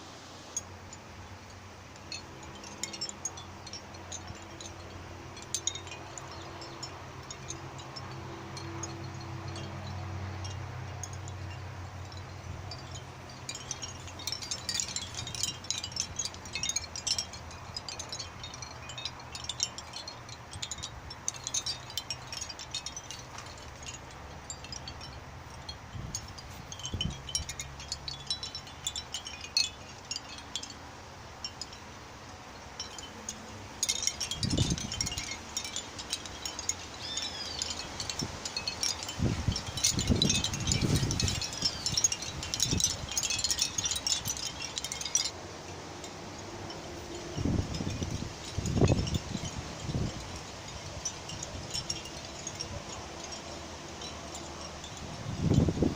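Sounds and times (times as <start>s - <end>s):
seashell wind chime clinking: 0.0s - 55.9s.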